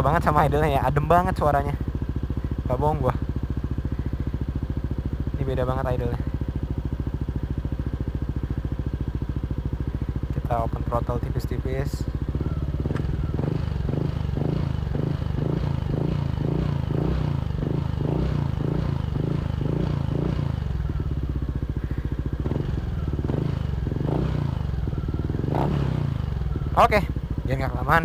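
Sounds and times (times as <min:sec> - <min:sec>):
scooter engine idling: 0:00.0 - 0:28.0.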